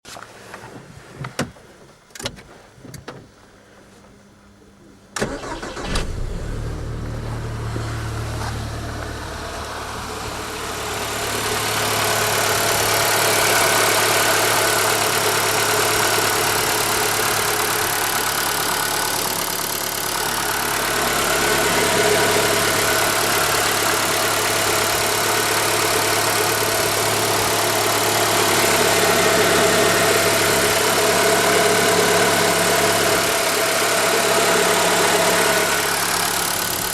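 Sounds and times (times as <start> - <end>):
car engine starting and idling: 5.2 - 36.9
engine ticking: 5.2 - 36.9.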